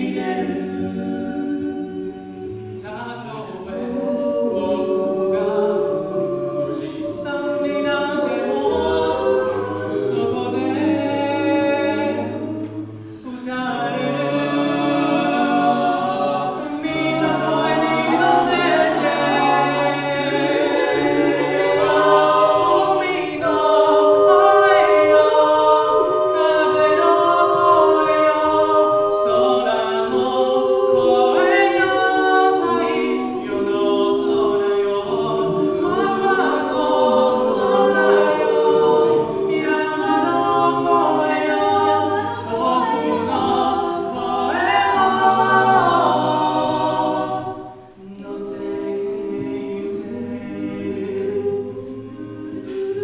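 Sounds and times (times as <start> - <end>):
a cappella group singing in harmony: 0.0 - 53.0.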